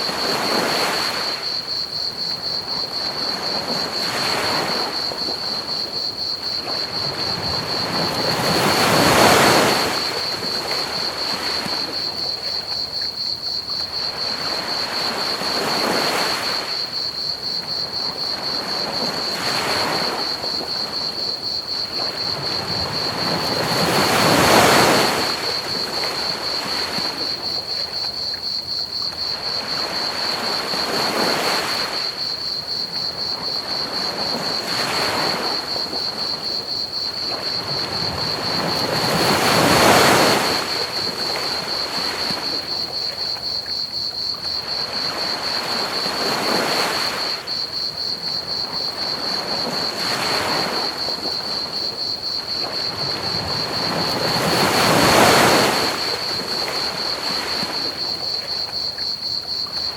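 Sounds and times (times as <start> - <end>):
crickets chirping: 0.0 - 59.9
ocean waves washing onto beach: 0.0 - 59.9.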